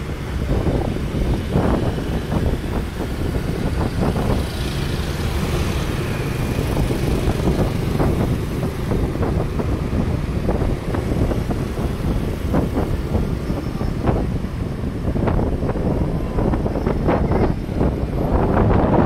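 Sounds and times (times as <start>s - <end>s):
motorbike engines passing: 0.0s - 19.0s
wind rumbling on microphone: 0.0s - 19.0s.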